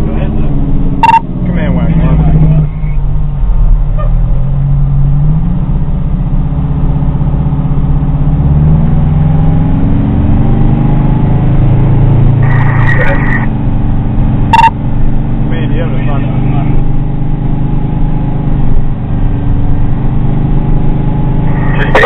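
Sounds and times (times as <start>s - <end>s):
fire engine running: 0.0s - 22.0s.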